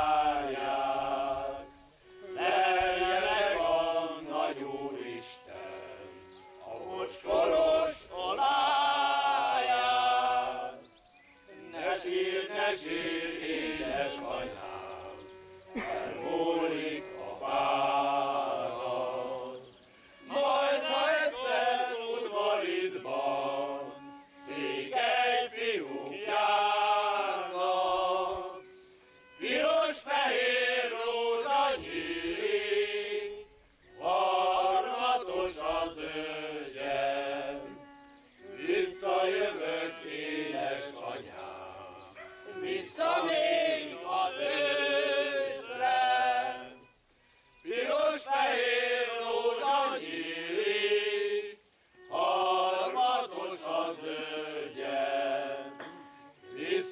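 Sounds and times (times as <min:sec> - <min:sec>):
men's choir singing: 0:00.0 - 0:46.9, 0:47.6 - 0:56.9
violin playing: 0:00.0 - 0:50.8, 0:51.8 - 0:56.9.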